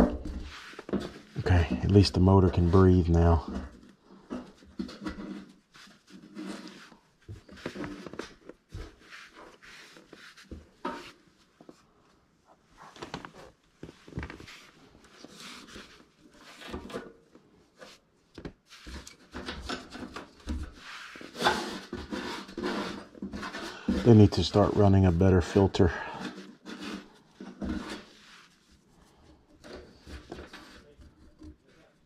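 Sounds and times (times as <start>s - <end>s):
hands rustling and scraping: 0.0s - 32.0s.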